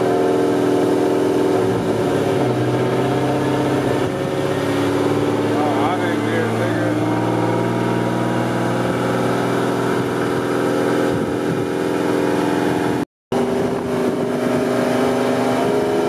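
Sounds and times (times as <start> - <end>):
car engine running on dyno: 0.0 - 16.0.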